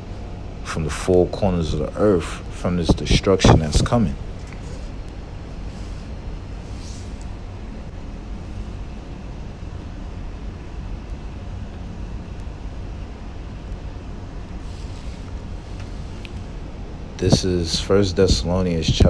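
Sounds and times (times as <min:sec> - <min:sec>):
air conditioning blowing from vent: 0:00.0 - 0:19.0.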